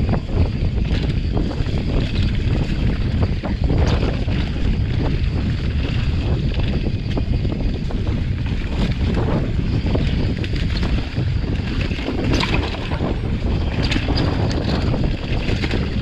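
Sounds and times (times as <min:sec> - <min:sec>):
bike rattling over bumps: 0:00.0 - 0:16.0
wind buffeting microphone: 0:00.0 - 0:16.0.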